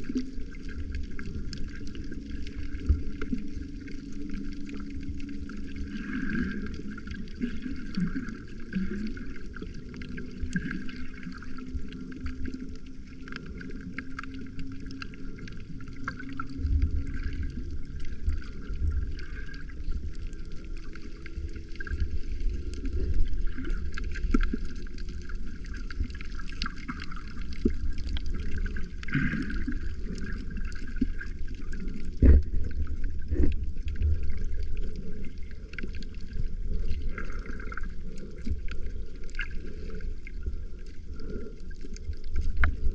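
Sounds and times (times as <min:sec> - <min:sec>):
underwater sloshing and gurgling: 0:00.0 - 0:42.9.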